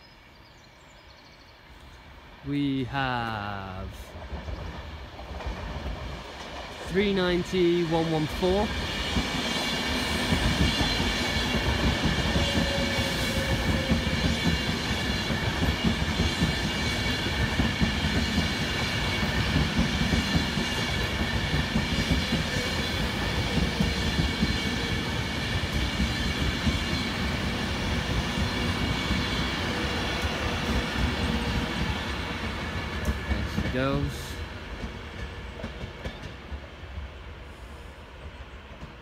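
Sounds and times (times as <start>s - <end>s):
high-pitched train whine: 0.0s - 39.0s
train wheels rumbling on rail: 1.8s - 39.0s.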